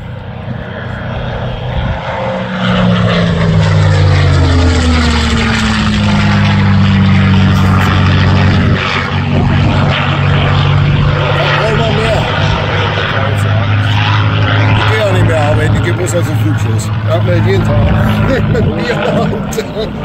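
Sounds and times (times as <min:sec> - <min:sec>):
propeller plane engine flypast: 0:00.0 - 0:20.0.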